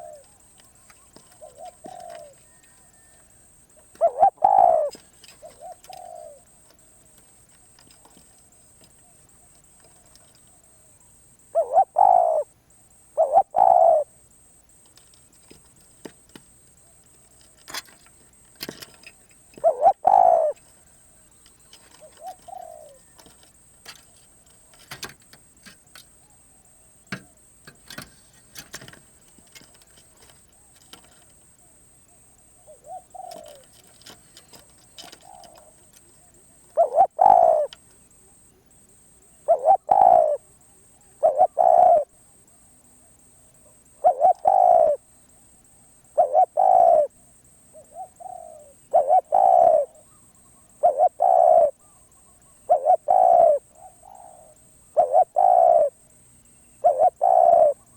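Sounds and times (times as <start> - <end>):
dove cooing: 0.0 - 12.5, 13.1 - 45.4, 46.0 - 57.9.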